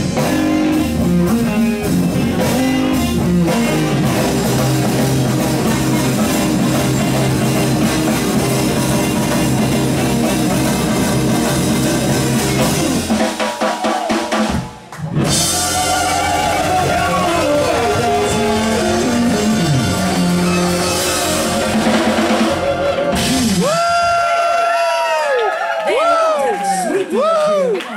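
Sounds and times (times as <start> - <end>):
live band playing: 0.0 - 24.8.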